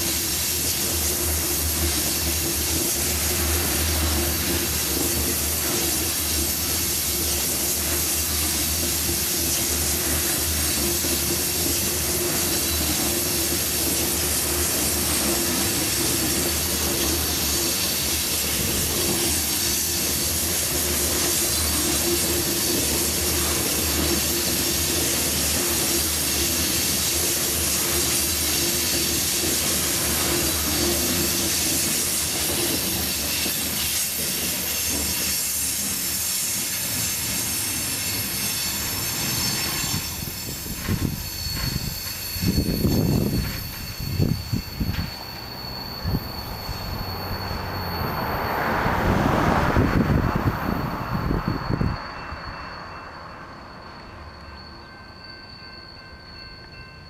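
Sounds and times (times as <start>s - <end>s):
wheels squealing: 0.0s - 56.7s
train wheels rumbling and clattering: 0.0s - 57.0s.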